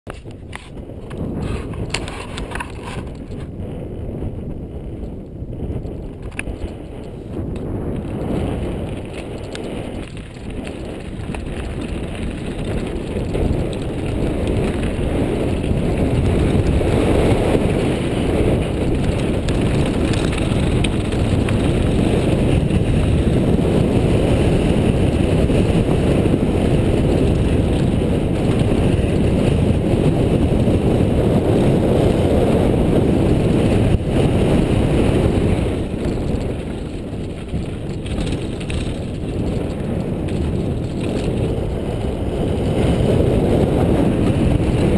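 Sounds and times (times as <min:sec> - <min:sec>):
bike tyre rumble on trail: 0:00.1 - 0:44.9
wind on microphone: 0:00.1 - 0:44.9.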